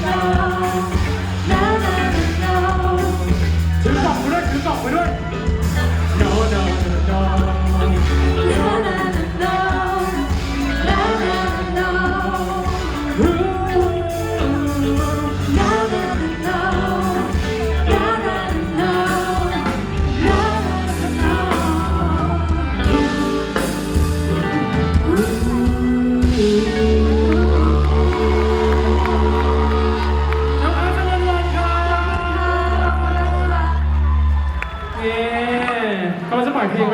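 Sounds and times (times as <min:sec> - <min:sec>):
person singing: 0:00.0 - 0:34.1
backing music with bass: 0:00.0 - 0:36.0.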